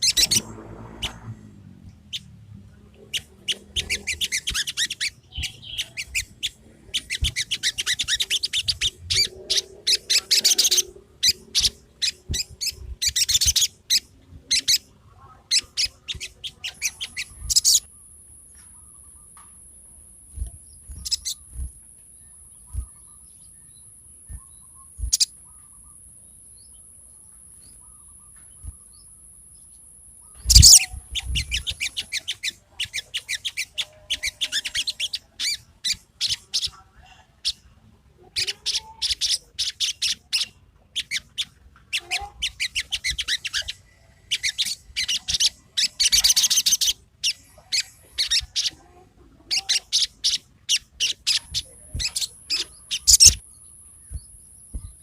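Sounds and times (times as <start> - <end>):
bird chirping rapidly: 0.0 - 1.4, 2.0 - 2.4, 3.0 - 36.7, 38.4 - 48.8, 49.5 - 55.0.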